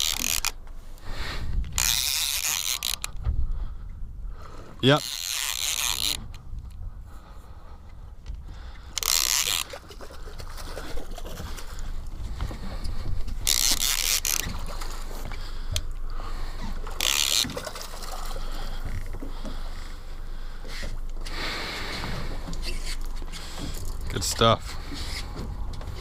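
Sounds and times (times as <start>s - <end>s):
boat engine rumble: 0.0s - 26.0s.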